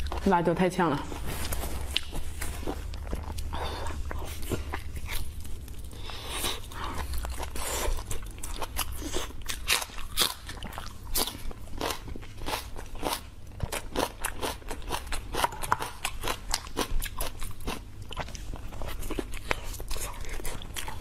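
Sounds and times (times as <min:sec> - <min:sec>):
chewing meat: 0:00.0 - 0:21.0.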